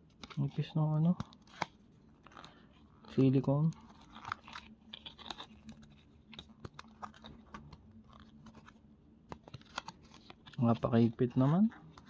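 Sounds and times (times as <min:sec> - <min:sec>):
packaging crinkling: 0:00.0 - 0:10.9
faint low hum: 0:00.0 - 0:12.0.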